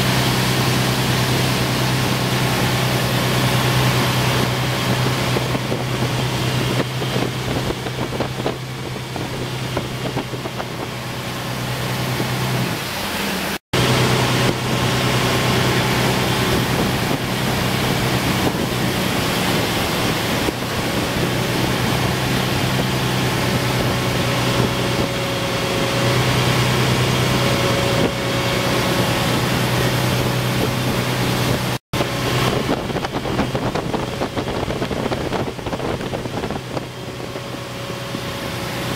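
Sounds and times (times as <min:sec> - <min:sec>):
boat engine running: 0:00.0 - 0:38.9
rush of churned water: 0:00.0 - 0:38.9
wind buffeting microphone: 0:00.1 - 0:12.9, 0:13.8 - 0:38.9.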